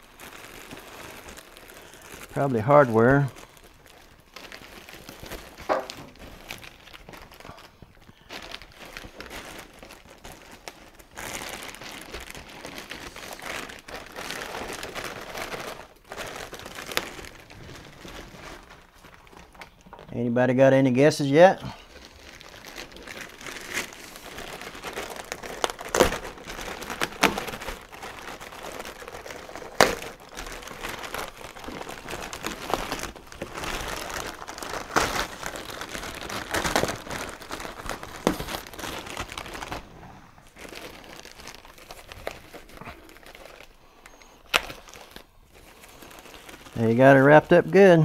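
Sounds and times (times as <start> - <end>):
plastic crackles: 0.0 - 48.0
plastic wrapping crinkling: 0.0 - 48.0.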